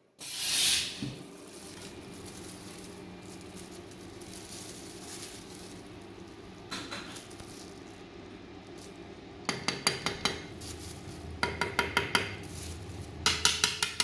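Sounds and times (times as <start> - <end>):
low machine hum: 1.0 - 13.5.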